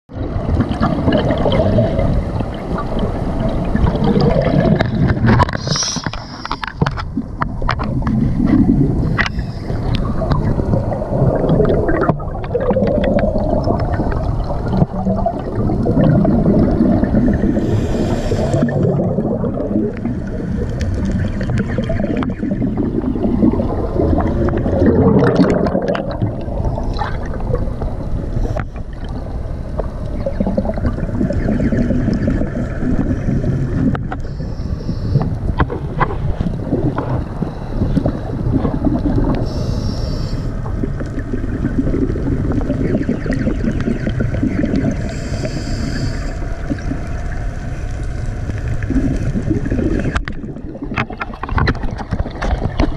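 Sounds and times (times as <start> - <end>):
diver exhaling bubbles: 0.1 - 29.2, 30.1 - 47.1, 48.9 - 52.9
muffled underwater rumble: 0.1 - 52.9.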